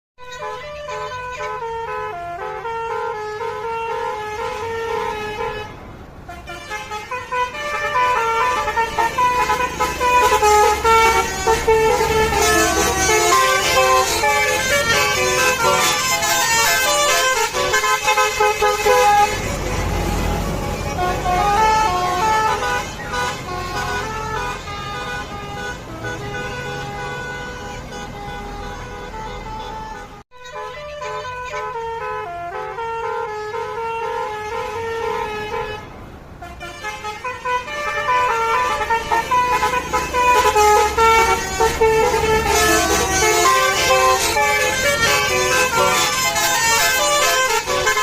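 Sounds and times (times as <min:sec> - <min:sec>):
multi-tone musical vehicle horn: 0:00.2 - 0:48.0.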